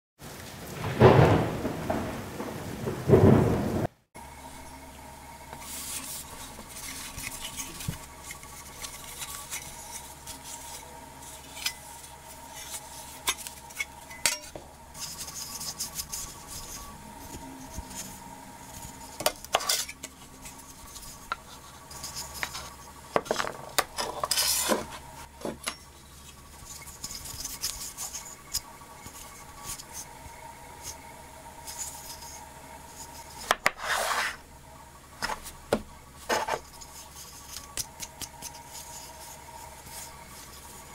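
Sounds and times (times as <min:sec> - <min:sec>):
faint steady hum: 0:00.2 - 0:40.9
scraping rubs: 0:05.5 - 0:25.3, 0:25.9 - 0:34.5, 0:35.2 - 0:40.9.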